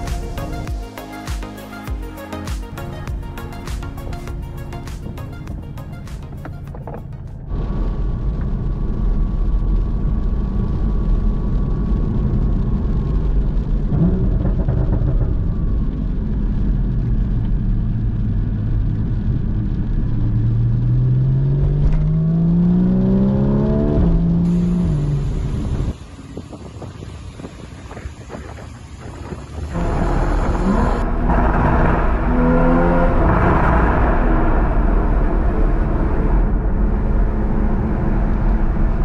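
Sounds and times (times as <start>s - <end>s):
road rumble: 0.0s - 39.0s
sports car engine: 2.8s - 39.0s.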